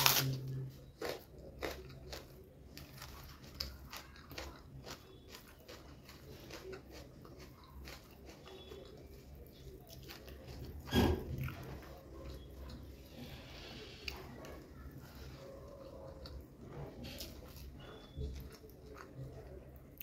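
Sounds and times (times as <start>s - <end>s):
chewing food: 0.0s - 20.0s
faint low hum: 0.0s - 20.0s.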